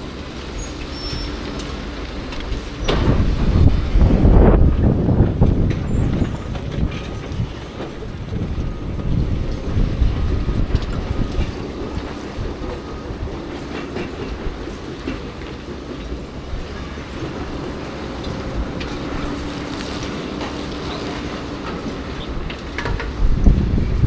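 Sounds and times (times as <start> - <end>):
heavy engine running: 0.0 - 24.0.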